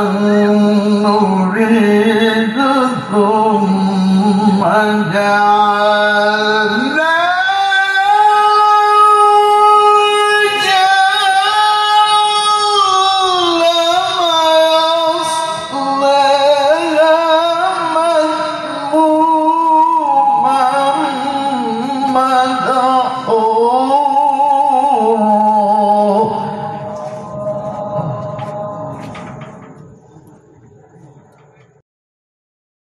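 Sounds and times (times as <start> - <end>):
man reciting melodically: 0.0 - 29.7.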